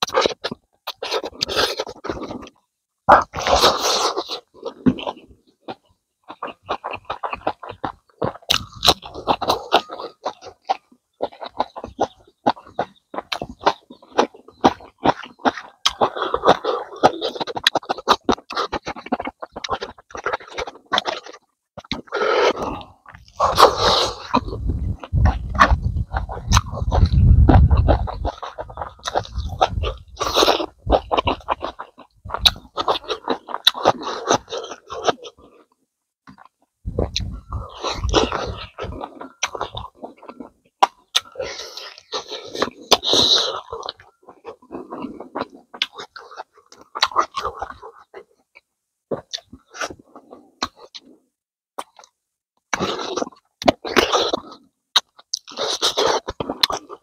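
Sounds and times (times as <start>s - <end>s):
mouth chewing with wet smacks: 0.0s - 51.2s, 51.8s - 57.0s.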